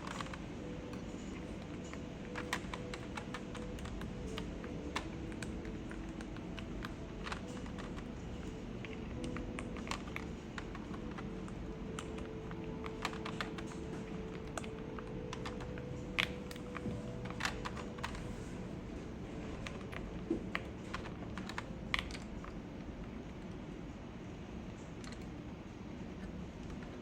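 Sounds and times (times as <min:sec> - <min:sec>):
mechanical keyboard clicks: 0:00.0 - 0:23.6
faint steady hum: 0:00.0 - 0:27.0.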